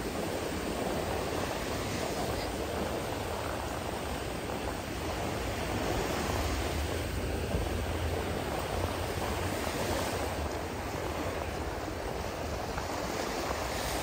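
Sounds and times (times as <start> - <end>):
surf breaking on shore: 0.0 - 14.0.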